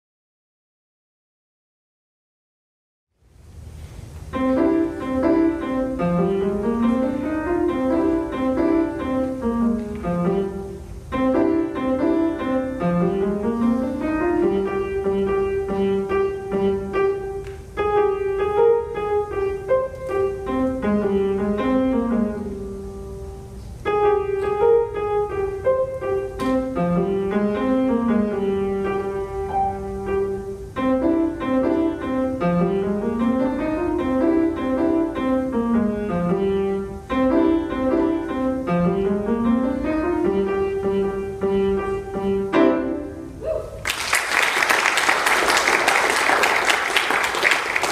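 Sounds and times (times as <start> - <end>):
solo grand piano: 3.2 - 47.9.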